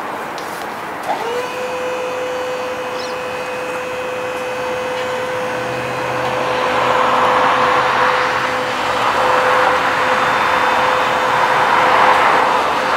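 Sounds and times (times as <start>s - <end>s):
hydraulic pump motor whining: 1.0s - 12.9s.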